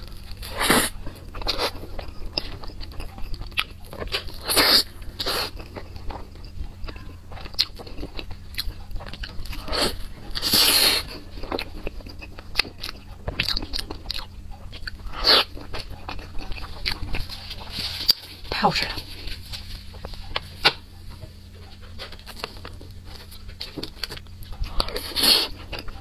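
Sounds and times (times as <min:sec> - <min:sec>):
person biting and chewing cake: 0:00.0 - 0:26.0.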